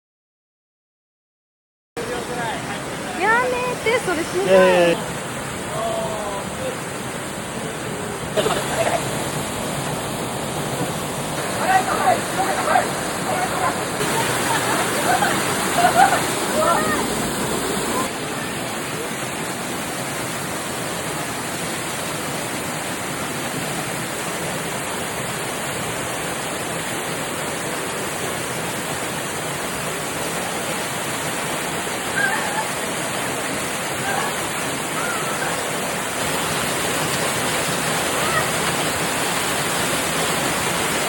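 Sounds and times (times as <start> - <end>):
waterfall rushing: 2.0 - 41.0.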